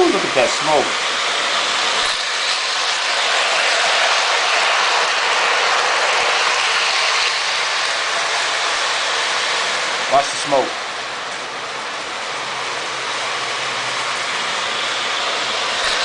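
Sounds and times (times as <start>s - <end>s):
toy train whirring and rattling: 0.0s - 16.0s.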